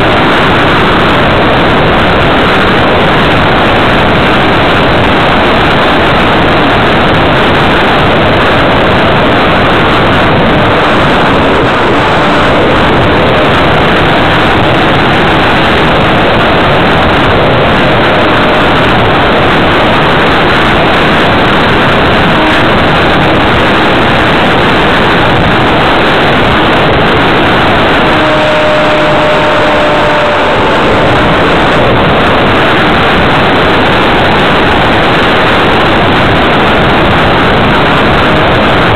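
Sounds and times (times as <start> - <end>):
faint steady whine: 0.0 - 38.9
motor and propeller noise: 0.0 - 38.9
wind rushing: 0.0 - 38.9.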